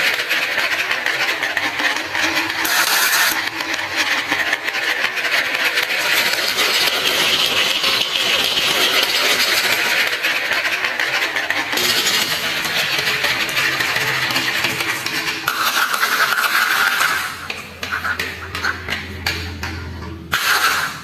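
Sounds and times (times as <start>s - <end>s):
marbles rattling down wooden run: 0.0s - 19.6s.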